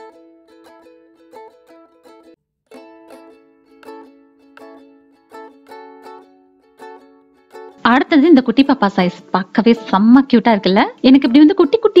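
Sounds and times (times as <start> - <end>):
plucked string instrument tune: 0.0 - 12.0.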